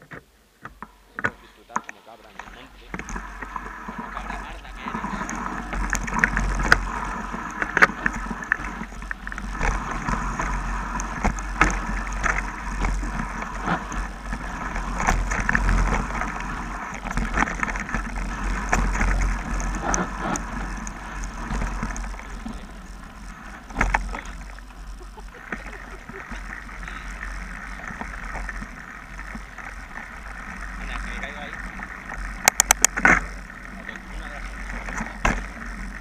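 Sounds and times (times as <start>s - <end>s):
bike rattling over bumps: 0.0s - 36.0s
bike tyres rumbling on dirt: 0.0s - 36.0s.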